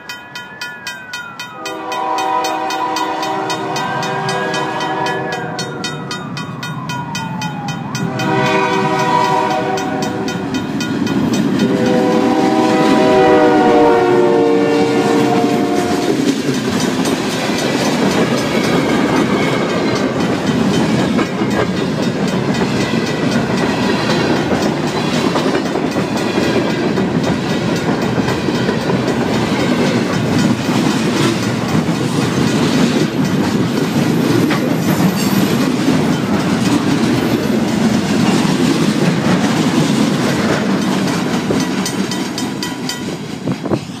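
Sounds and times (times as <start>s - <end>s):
train wheels clacking over rail joints: 1.8s - 14.0s, 15.0s - 44.0s.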